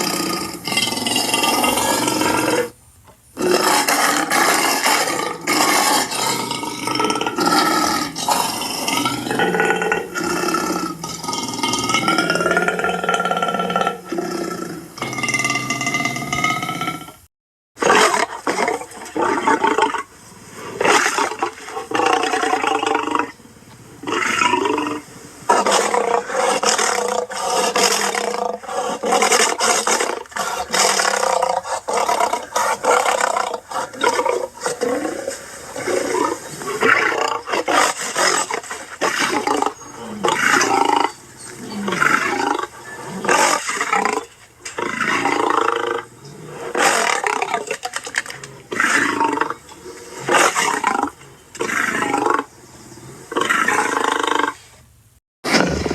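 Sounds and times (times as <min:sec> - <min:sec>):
big cat roaring and growling: 0:00.0 - 0:02.8, 0:03.4 - 0:17.2, 0:24.0 - 0:54.6, 0:55.5 - 0:55.9.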